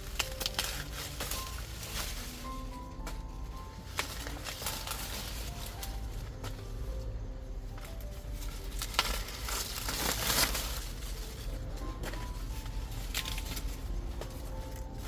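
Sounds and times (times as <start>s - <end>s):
dry plants rustling and crackling: 0.0s - 15.0s
soft background music: 0.0s - 15.0s.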